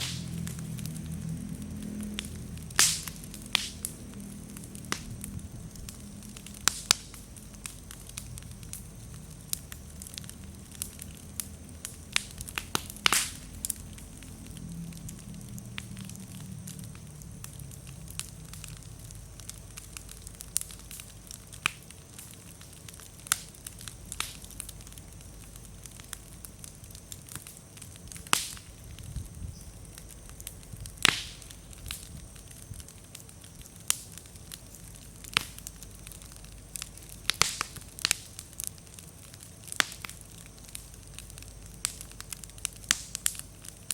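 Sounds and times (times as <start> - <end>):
fire crackling: 0.0 - 43.9
firewood popping: 0.0 - 43.9
flame rumble: 0.0 - 43.9.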